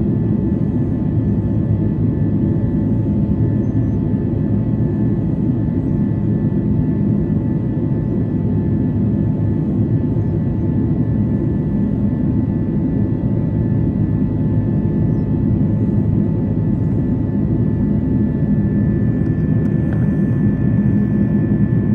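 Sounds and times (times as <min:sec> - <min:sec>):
faint steady whine: 0:00.0 - 0:21.9
jet engine and airflow rumble: 0:00.0 - 0:21.9.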